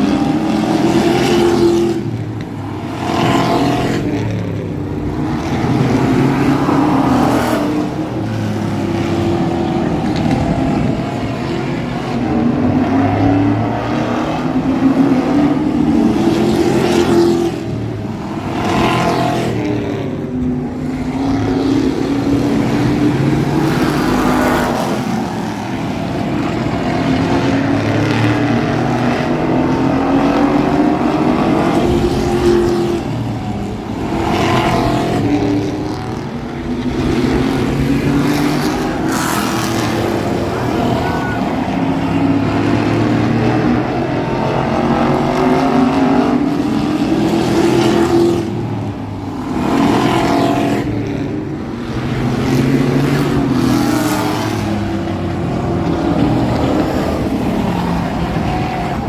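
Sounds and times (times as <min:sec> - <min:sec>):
race truck engines: 0:00.0 - 0:59.0.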